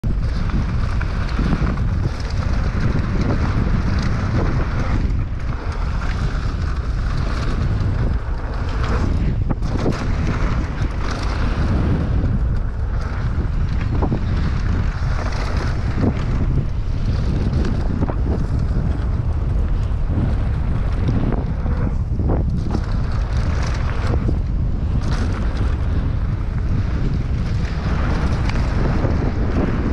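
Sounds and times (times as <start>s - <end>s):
bike rattling and knocking: 0.0s - 29.9s
tyres rolling on dry dirt: 0.0s - 29.9s
wind buffeting microphone: 0.0s - 29.9s.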